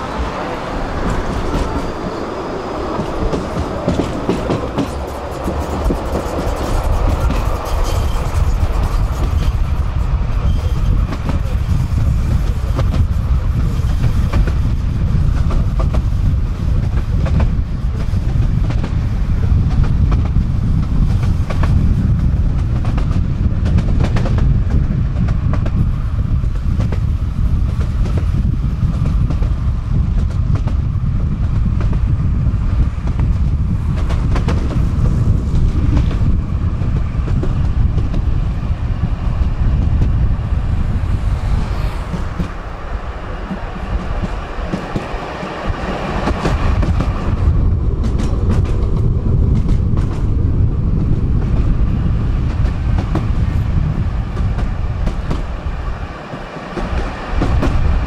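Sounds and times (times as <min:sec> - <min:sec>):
tram wheels rumbling on rails: 0:00.0 - 0:58.0
wheels clicking over rail joints: 0:00.2 - 0:40.3, 0:40.9 - 0:58.0.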